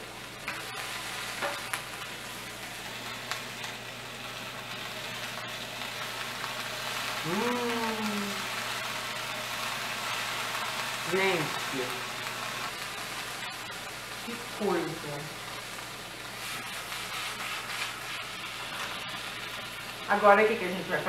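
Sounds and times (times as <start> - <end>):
olives sizzling in hot oil: 0.0 - 21.0.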